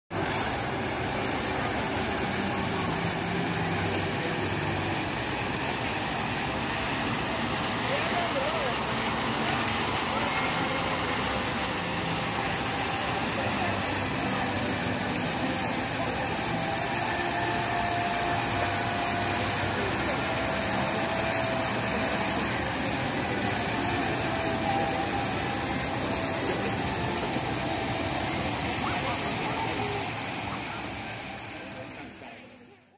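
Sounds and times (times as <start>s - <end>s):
fountain water splashing into basin: 0.1s - 32.9s.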